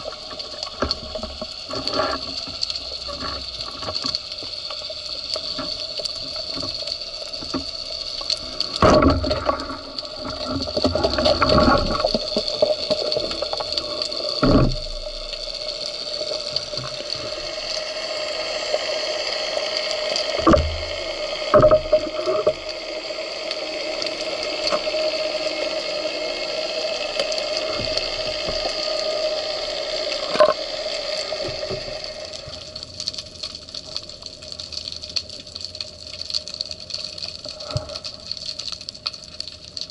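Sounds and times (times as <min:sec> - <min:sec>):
steady hum: 0:00.0 - 0:32.8
underwater water sound: 0:00.0 - 0:39.9.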